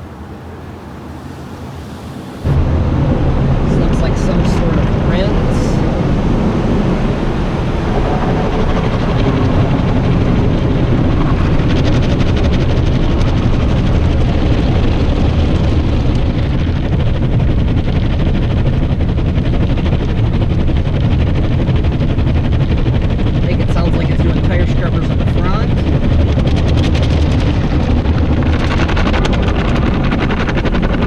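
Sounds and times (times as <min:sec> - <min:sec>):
car wash water rumble: 0:00.0 - 0:31.0.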